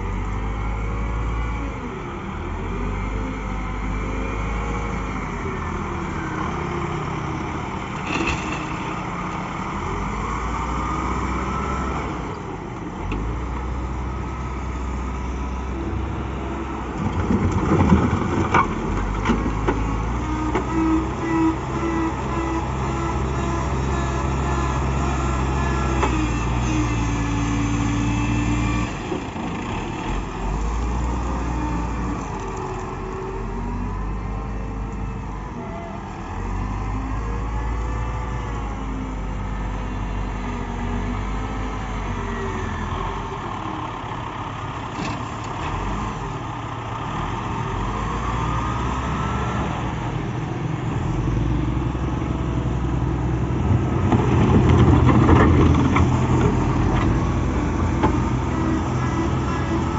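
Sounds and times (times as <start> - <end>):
diesel loader engine revving: 0.0 - 59.9.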